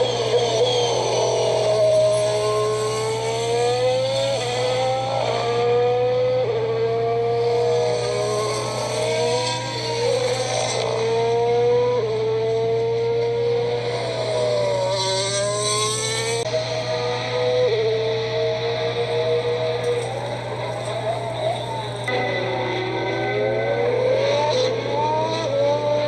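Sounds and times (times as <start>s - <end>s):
racing car engine upshifting: 0.0s - 26.0s.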